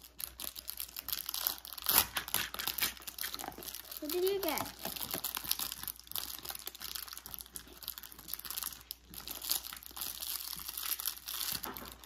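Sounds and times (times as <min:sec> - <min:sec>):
packaging rustling and crackling: 0:00.0 - 0:12.0.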